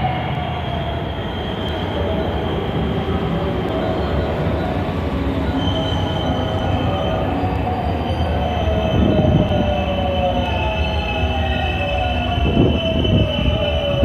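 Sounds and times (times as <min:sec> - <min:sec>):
electric train rumble: 0:00.0 - 0:14.0.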